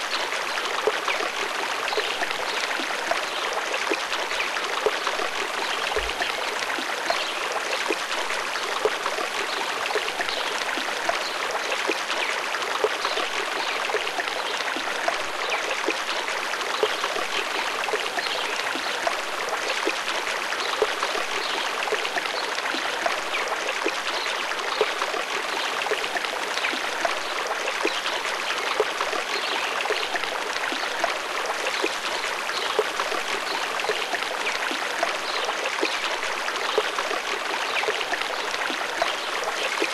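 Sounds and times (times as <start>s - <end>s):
running water with splashes: 0.0s - 39.9s.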